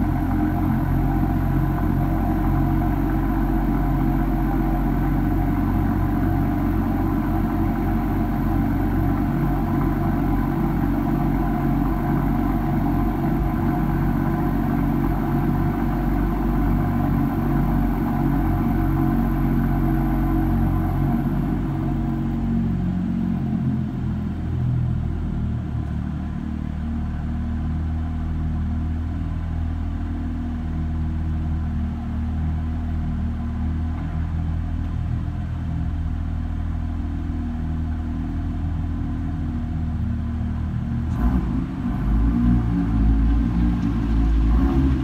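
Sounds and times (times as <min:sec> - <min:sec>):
car engine idling with exhaust burble: 0:00.0 - 0:45.0.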